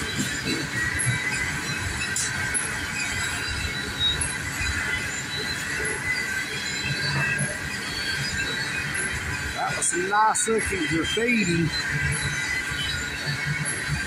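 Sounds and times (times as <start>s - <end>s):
high-pitched wheel squealing: 0.0s - 14.0s
steel wheels rumbling on rails: 0.0s - 14.0s.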